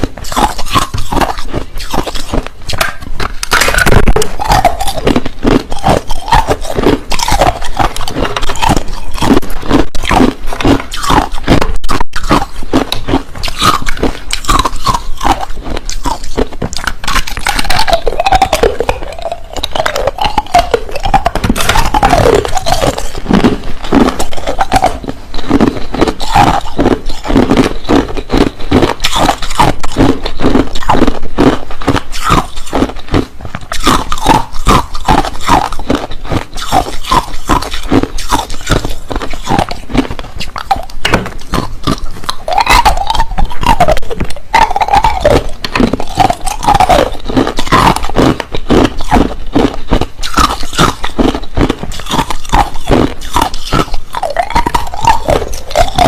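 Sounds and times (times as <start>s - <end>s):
ice being chewed: 0.0s - 56.0s
wavering throat sounds: 0.0s - 56.0s.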